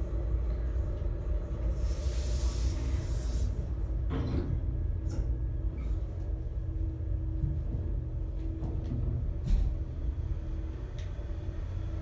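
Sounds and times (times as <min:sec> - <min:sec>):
elevator low rumble: 0:00.0 - 0:12.0.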